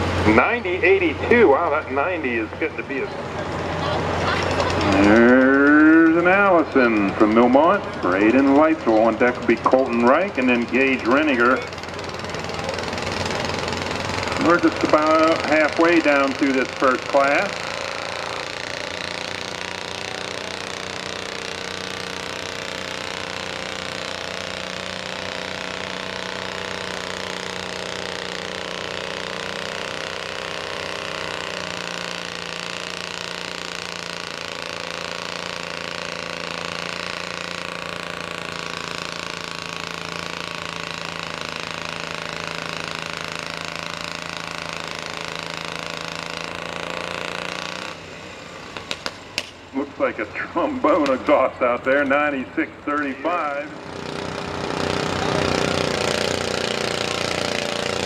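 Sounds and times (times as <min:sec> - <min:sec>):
tractor engine exhaust drone: 0:00.0 - 0:58.0.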